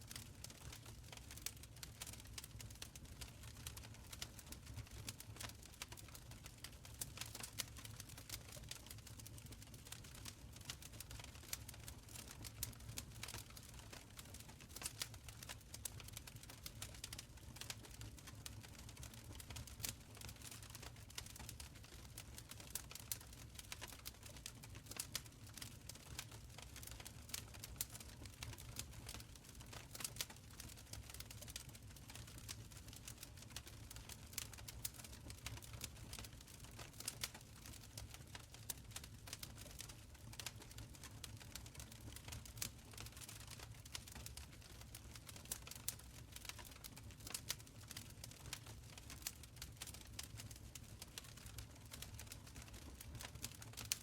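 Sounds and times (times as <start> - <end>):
fire popping and snapping: 0.1 - 54.0
low rumble of burning: 0.1 - 54.0.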